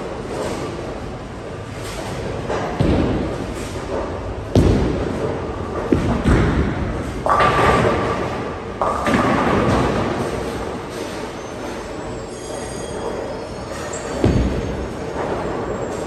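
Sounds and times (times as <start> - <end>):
bowling balls thudding on lanes: 2.0 - 16.0.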